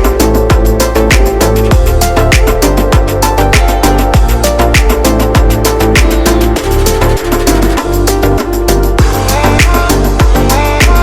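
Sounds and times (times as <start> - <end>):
electronic music with driving beat: 0.0 - 11.0.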